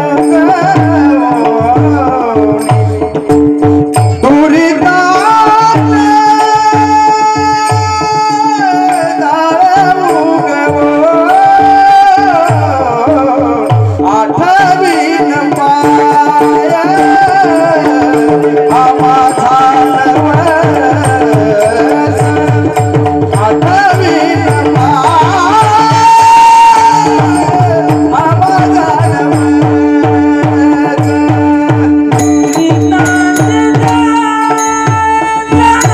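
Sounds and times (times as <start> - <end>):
hand drum: 0.0 - 35.9
person singing devotional song: 0.0 - 35.9.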